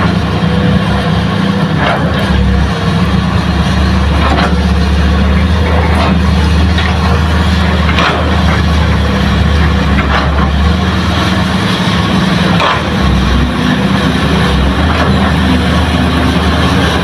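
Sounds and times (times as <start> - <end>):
diesel engines droning: 0.0 - 17.0.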